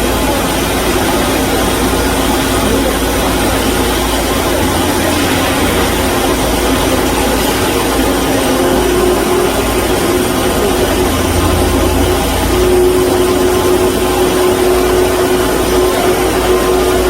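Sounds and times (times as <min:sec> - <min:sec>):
band saw machine running: 0:00.0 - 0:17.0.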